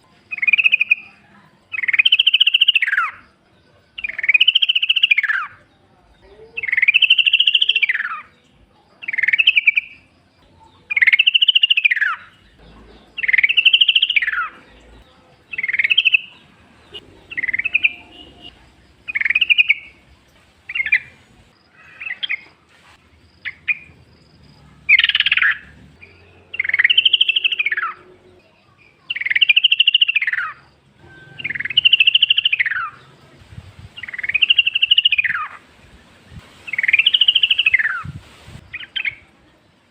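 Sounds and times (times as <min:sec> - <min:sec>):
bird singing: 0:00.0 - 0:22.6, 0:23.3 - 0:35.6, 0:36.7 - 0:38.1.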